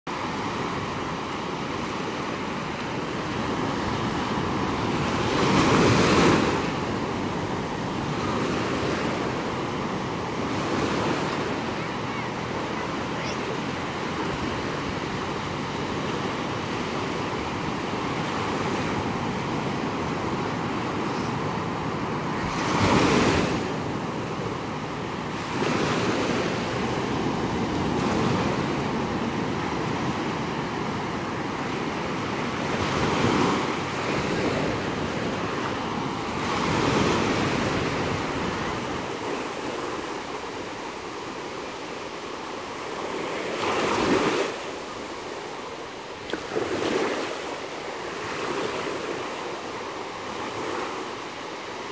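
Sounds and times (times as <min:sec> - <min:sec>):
waves washing up a beach: 0:00.1 - 0:51.9.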